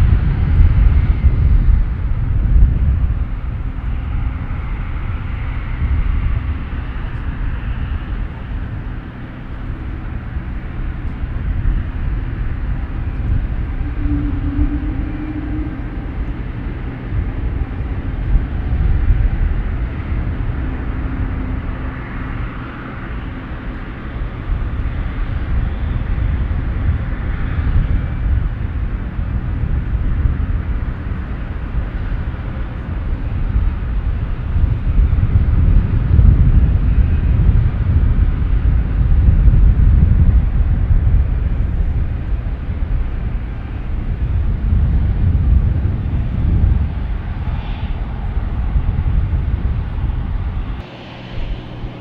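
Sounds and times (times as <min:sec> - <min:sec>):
airliner engine rumble: 0:00.0 - 0:52.0.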